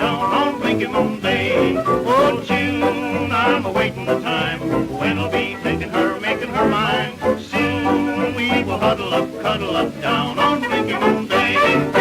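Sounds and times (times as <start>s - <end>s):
jazz dance band playing: 0.0s - 12.0s.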